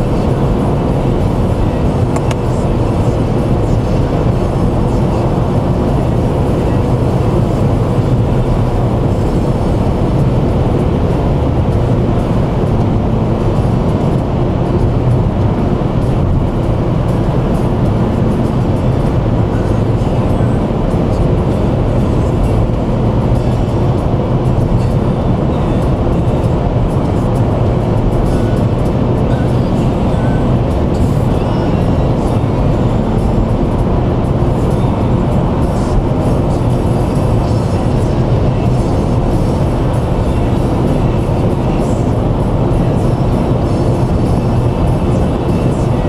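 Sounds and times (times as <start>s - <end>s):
car road and engine drone: 0.0s - 46.0s.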